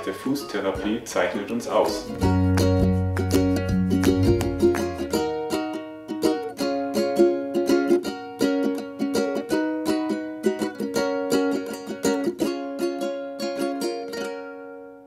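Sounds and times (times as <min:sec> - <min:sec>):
plucked string tune: 0:00.0 - 0:15.0.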